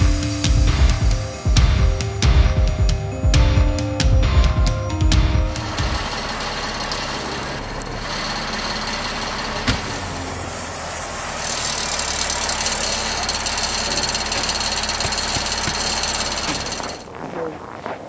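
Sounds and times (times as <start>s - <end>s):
engine running steadily: 0.0s - 17.1s
steady low hum: 0.0s - 17.2s.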